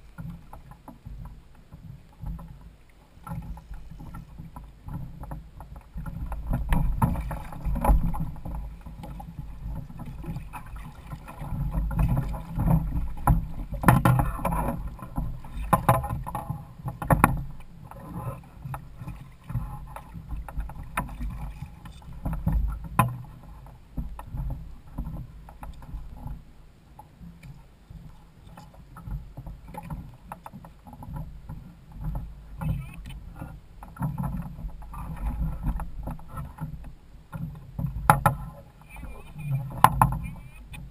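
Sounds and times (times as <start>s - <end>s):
water sloshing against kayak hull: 0.0s - 40.9s
wind rumble on microphone: 0.0s - 40.9s.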